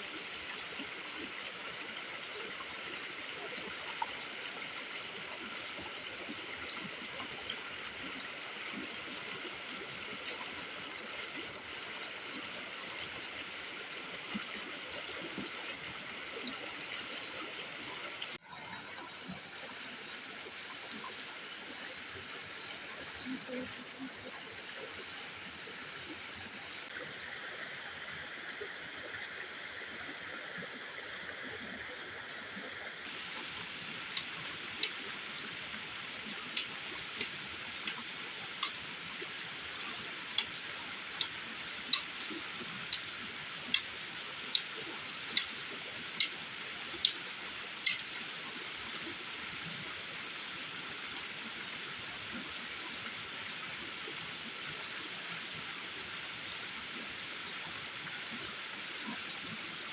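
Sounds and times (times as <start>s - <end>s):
water rushing: 0.0s - 59.9s.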